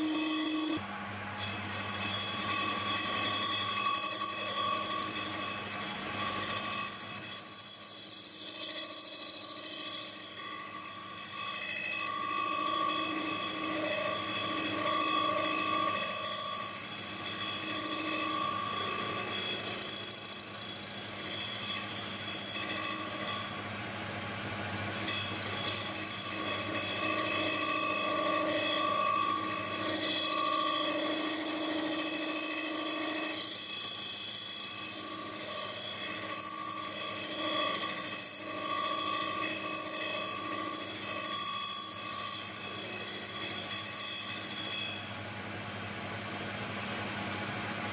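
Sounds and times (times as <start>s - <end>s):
lathe cutting metal squealing: 0.0s - 45.8s.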